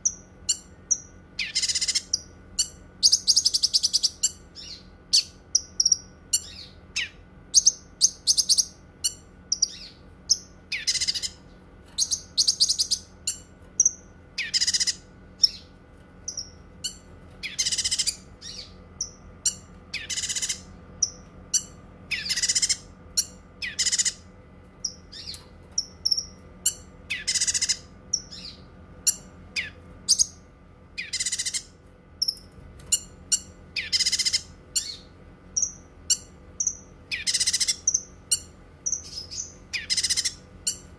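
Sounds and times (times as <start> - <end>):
faint steady hum: 0.0 - 40.9
songbird singing: 0.0 - 40.9.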